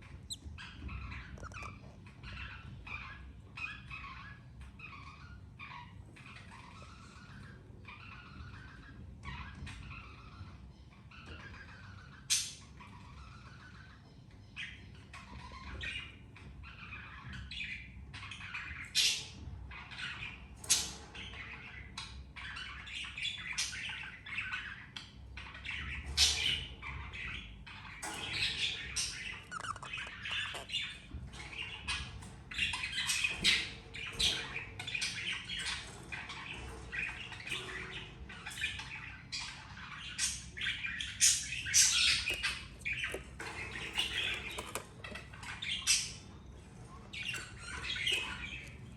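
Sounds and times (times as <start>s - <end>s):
budgerigars squawking and chirping: 0.0s - 48.9s.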